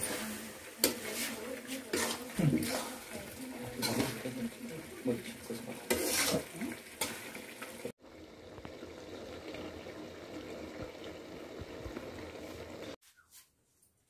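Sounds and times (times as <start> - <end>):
covered pot simmering hiss: 0.0 - 13.0.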